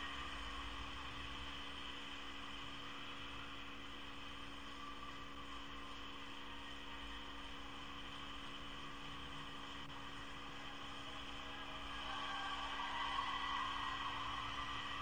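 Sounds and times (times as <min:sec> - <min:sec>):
electrical hum with tones: 0:00.0 - 0:15.0.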